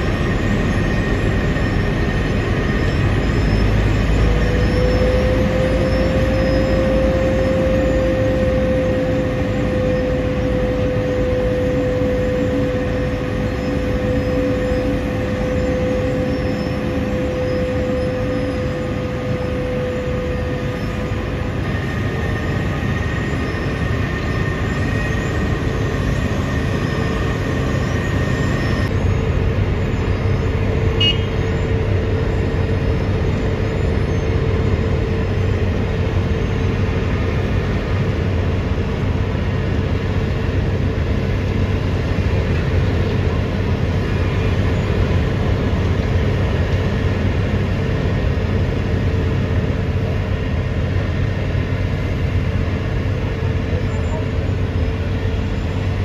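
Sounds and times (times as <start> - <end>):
high machine whine: 0.0 - 56.0
milling machine engine din: 0.0 - 56.0.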